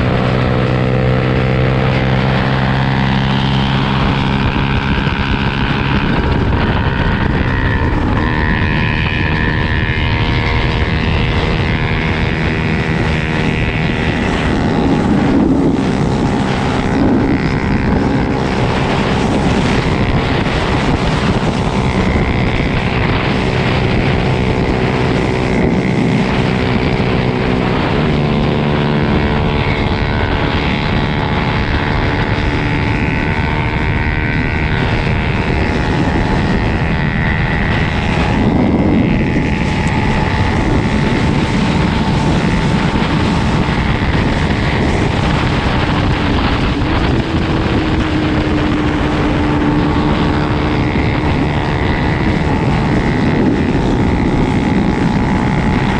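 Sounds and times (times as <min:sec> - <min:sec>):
dirt bike engine revving: 0:00.0 - 0:55.9
steady rushing noise: 0:00.0 - 0:55.9.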